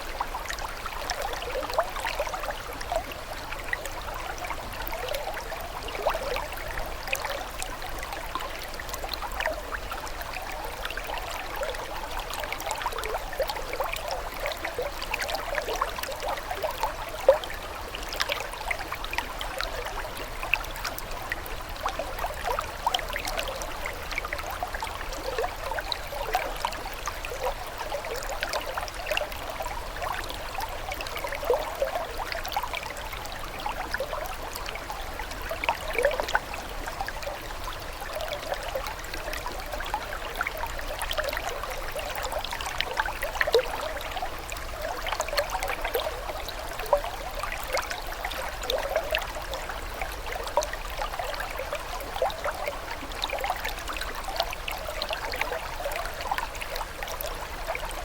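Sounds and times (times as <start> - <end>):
water trickling and burbling: 0.0 - 58.0.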